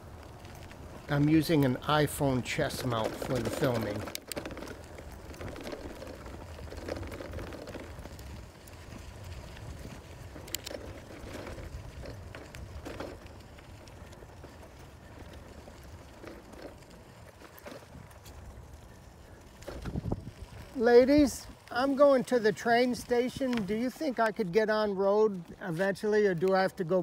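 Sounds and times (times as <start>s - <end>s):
bicycle tyres on gravel: 0.0s - 27.0s
small clicks and rattles: 0.1s - 24.6s.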